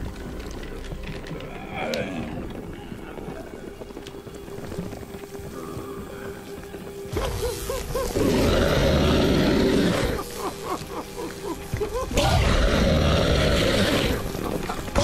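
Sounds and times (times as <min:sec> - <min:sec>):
electric crackling with chirps: 0:00.0 - 0:15.0.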